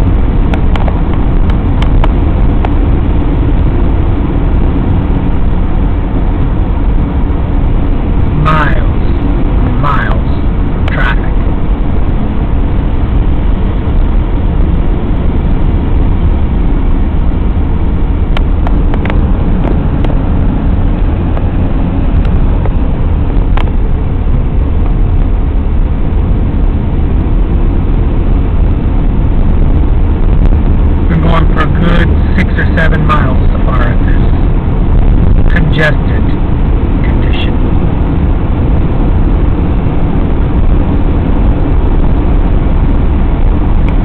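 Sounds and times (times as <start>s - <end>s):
car cabin road and engine noise: 0.0s - 44.0s.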